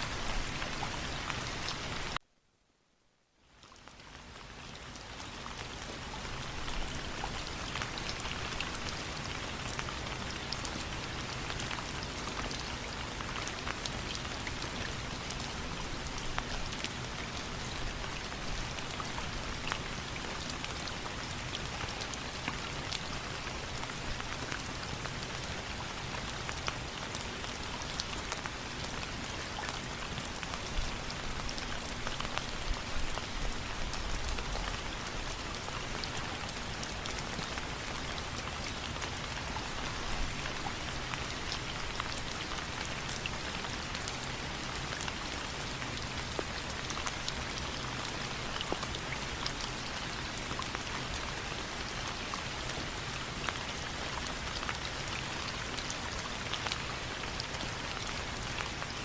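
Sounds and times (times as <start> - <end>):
steady rain: 0.0 - 2.6, 3.2 - 59.0.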